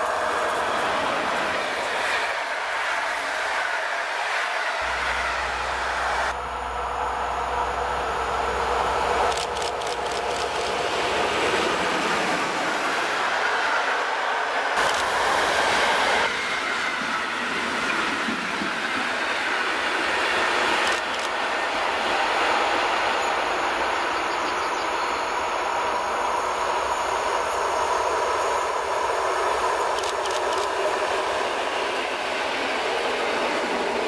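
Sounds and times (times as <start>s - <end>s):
train rolling on track: 0.0s - 34.0s.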